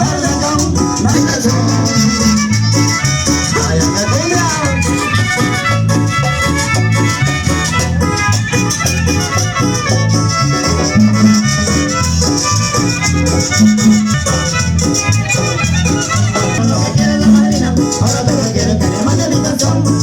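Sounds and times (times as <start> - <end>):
cumbia music with bass: 0.0 - 20.0.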